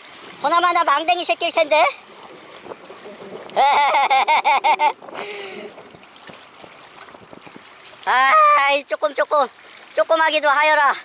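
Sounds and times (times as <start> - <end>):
seawater lapping at rocks: 0.0 - 11.0.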